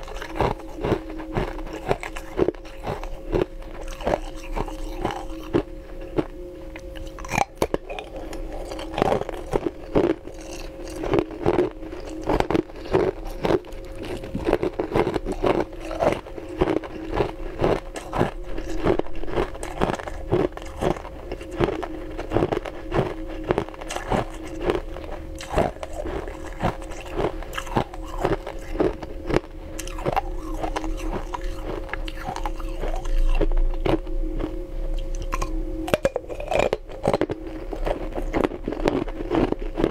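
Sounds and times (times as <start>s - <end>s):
ice crunching while chewed: 0.0s - 39.9s
low hum: 0.0s - 39.9s.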